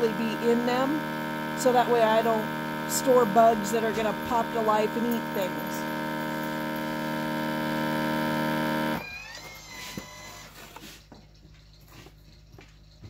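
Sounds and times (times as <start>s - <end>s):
vacuum pump humming: 0.0s - 11.1s.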